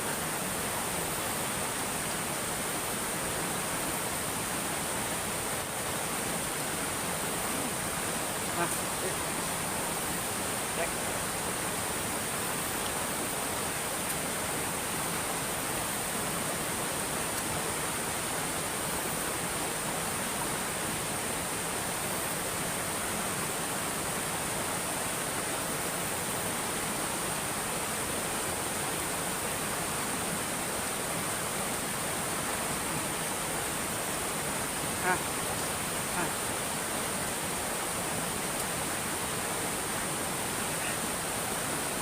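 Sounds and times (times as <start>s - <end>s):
steady high hiss: 0.0s - 42.0s
stream water rushing: 0.0s - 42.0s.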